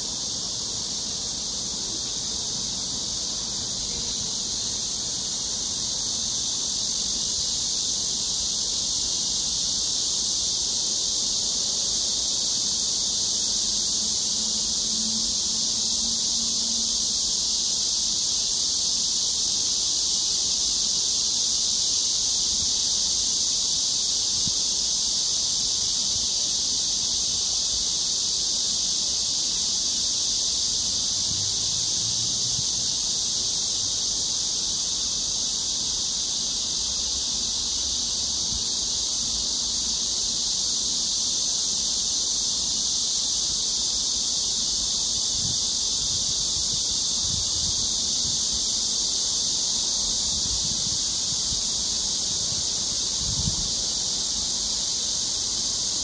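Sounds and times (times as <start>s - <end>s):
insects shrilling: 0.0s - 56.0s.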